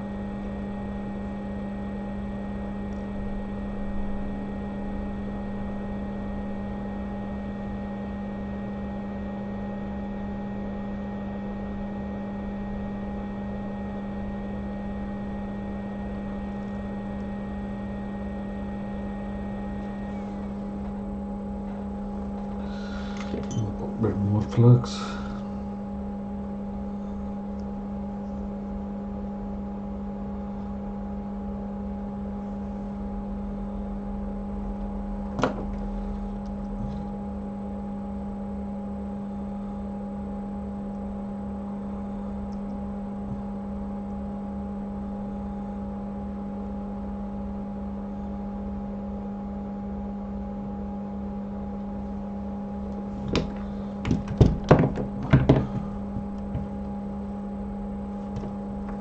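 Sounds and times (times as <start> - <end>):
hot air station humming: 0.0 - 28.5, 31.7 - 45.8, 51.3 - 59.0.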